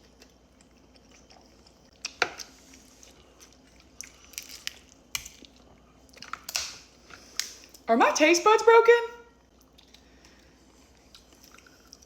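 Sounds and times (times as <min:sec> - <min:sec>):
chewing crab meat: 0:00.0 - 0:07.8, 0:09.4 - 0:12.0.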